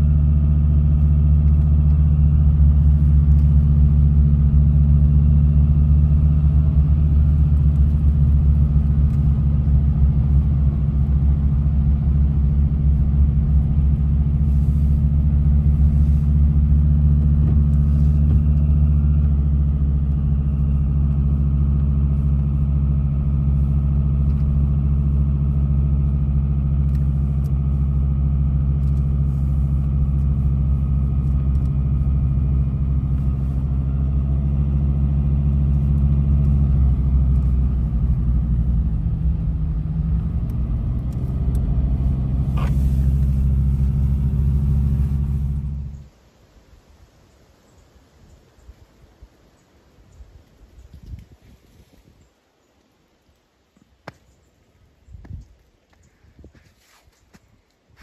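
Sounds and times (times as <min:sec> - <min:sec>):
car engine and road drone: 0:00.0 - 0:58.0.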